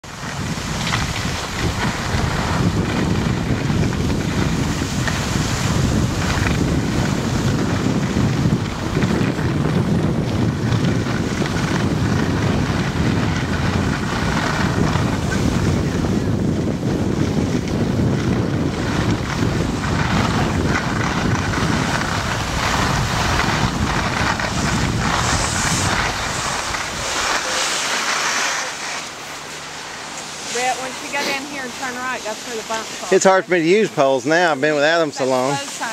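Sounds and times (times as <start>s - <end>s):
skis sliding on packed snow: 0.0s - 35.9s
wind rushing over microphone: 0.0s - 35.9s.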